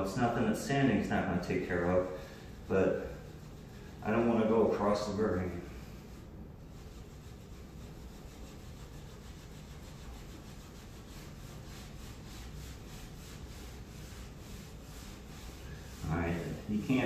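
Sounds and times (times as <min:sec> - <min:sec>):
steel wool scrubbing wood: 0:00.0 - 0:17.0.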